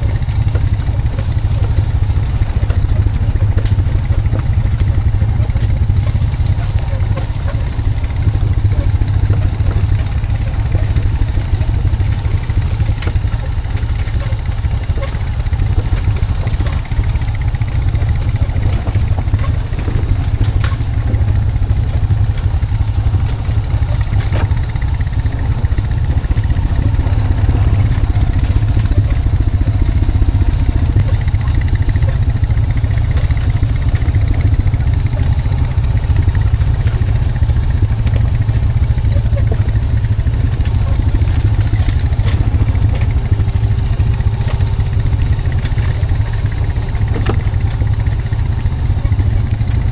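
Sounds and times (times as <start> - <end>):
engine running under load: 0.0 - 49.9.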